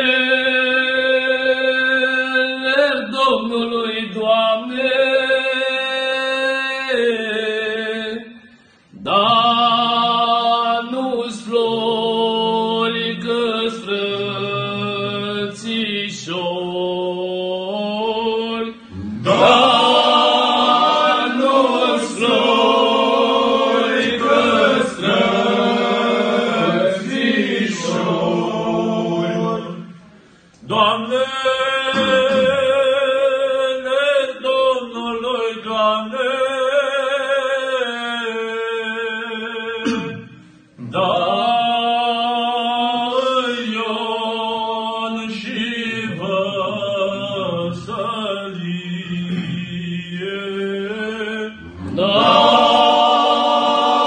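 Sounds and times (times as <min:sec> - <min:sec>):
men singing unaccompanied: 0:09.0 - 0:29.8, 0:30.6 - 0:40.0, 0:40.8 - 0:54.0.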